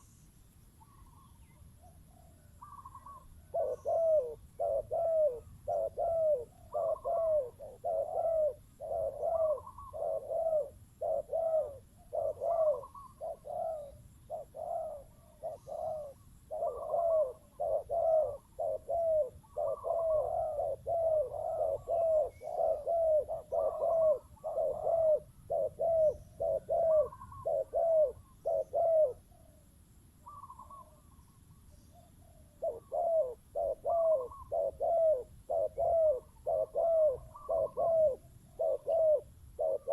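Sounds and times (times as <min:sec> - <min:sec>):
doves cooing: 0:00.0 - 0:29.6, 0:30.2 - 0:39.9.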